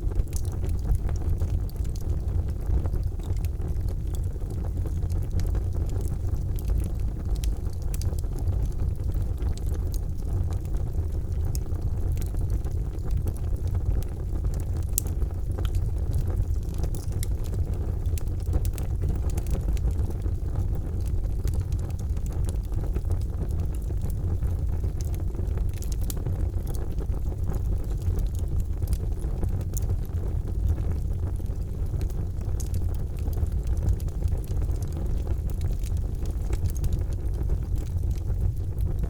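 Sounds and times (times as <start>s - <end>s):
charcoal fire rumbling: 0.0s - 39.0s
fire crackling and popping: 0.0s - 39.0s.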